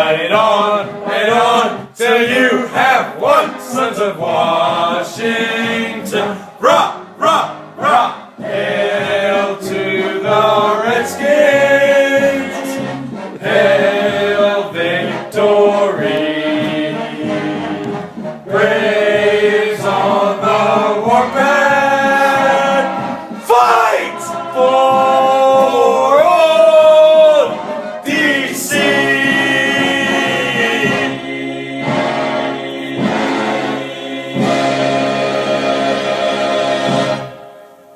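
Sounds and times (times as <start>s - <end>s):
men singing a cappella: 0.0s - 37.3s.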